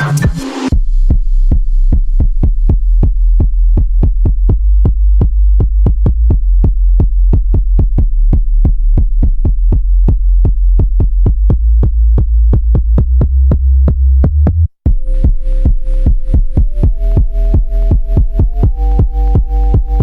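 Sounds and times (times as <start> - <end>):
electronic music with kick drum: 0.0 - 20.0.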